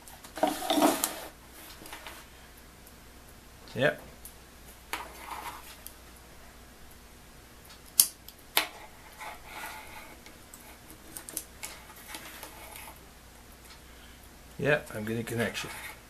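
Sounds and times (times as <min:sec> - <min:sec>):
wires rustling: 0:00.0 - 0:07.0, 0:07.6 - 0:14.1, 0:14.8 - 0:16.0.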